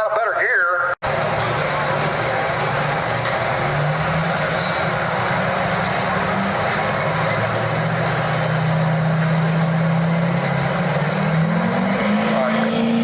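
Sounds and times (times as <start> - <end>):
truck engine at full throttle: 1.0 - 13.0.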